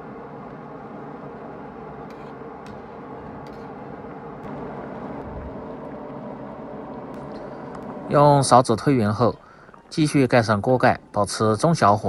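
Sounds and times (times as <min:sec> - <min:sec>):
stew bubbling in a wok: 0:00.0 - 0:10.4.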